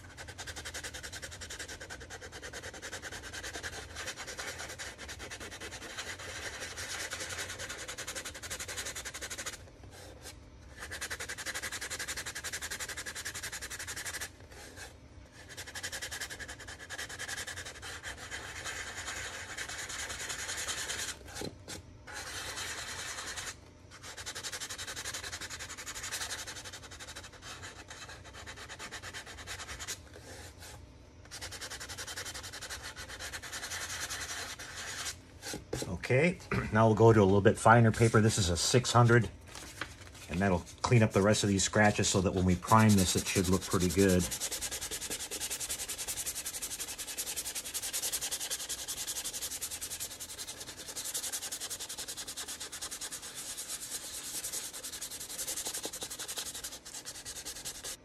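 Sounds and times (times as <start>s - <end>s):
sandpaper scratching plastic: 0.0s - 9.6s, 10.2s - 30.7s, 31.3s - 35.9s, 37.0s - 58.0s.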